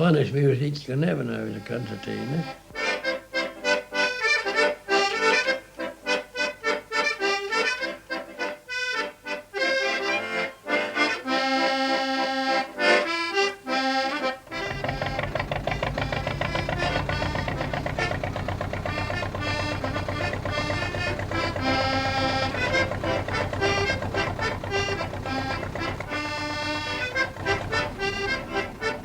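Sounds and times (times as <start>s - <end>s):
concertina playing lively tune: 0.0s - 29.0s.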